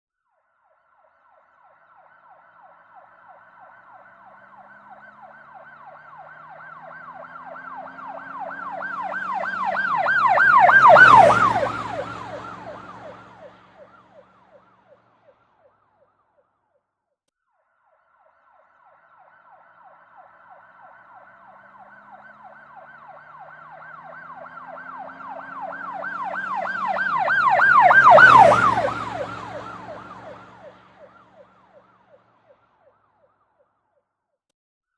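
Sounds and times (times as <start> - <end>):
car engine and tyre noise: 0.6 - 16.2, 17.9 - 33.4
police siren yelping: 1.3 - 16.1, 18.2 - 32.9.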